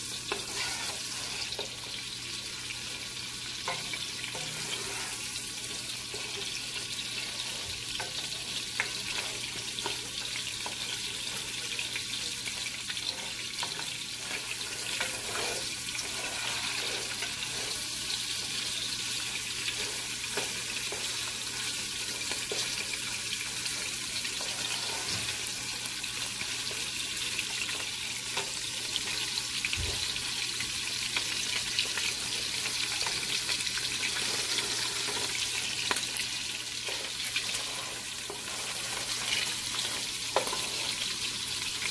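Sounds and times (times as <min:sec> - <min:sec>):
spatula stirring meat: 0:00.0 - 0:29.5, 0:30.4 - 0:41.9
meat sizzling in hot oil: 0:00.0 - 0:41.9.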